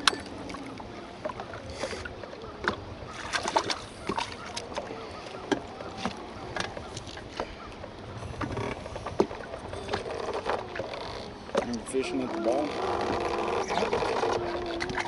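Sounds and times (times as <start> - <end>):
waves lapping against boat hull: 0.0 - 15.0.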